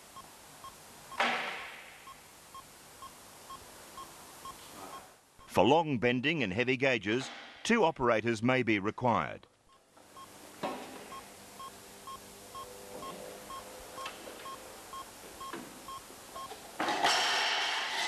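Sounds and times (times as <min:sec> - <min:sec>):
faint mechanical noise: 0:00.0 - 0:08.2, 0:09.0 - 0:18.0.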